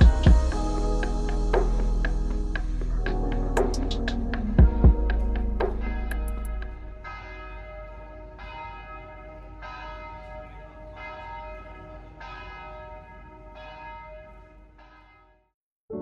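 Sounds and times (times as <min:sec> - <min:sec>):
church bell tolling: 0:00.0 - 0:15.5.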